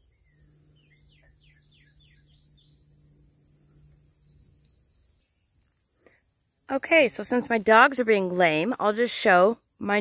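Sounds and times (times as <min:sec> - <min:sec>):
faint low hum: 0:00.0 - 0:08.9
insects trilling: 0:00.0 - 0:10.0.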